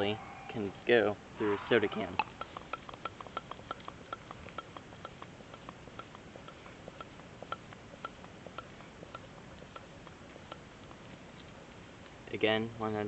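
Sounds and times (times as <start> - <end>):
light even ticking: 1.9 - 12.4.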